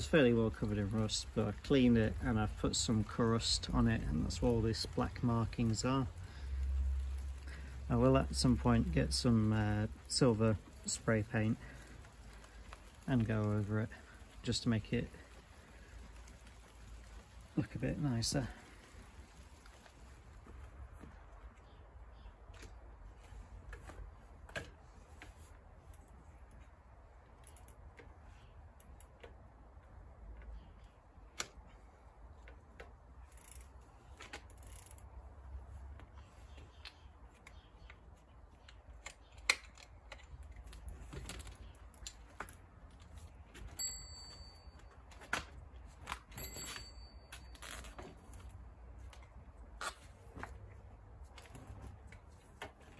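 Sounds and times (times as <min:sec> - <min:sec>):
metallic clicks of folding bike: 0:00.0 - 0:52.9.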